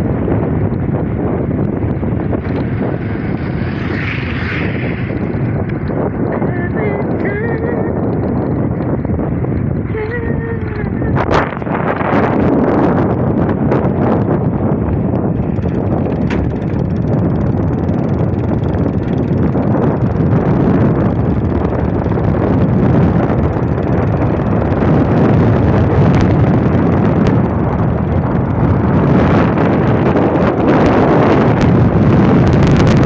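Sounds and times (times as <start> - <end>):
wind buffeting the microphone: 0.0 - 33.0.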